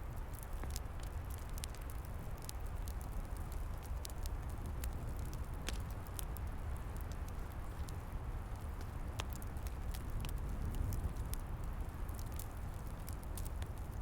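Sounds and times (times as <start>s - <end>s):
fire crackling and popping: 0.0s - 14.0s
flames rushing: 0.3s - 14.0s.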